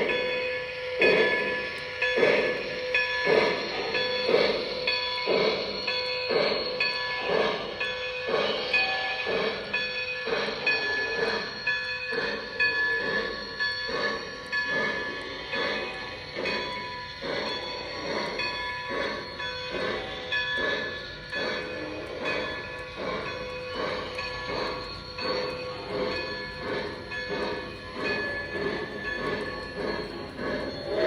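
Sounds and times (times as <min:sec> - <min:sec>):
toy steam locomotive chuffing: 0:00.0 - 0:31.0.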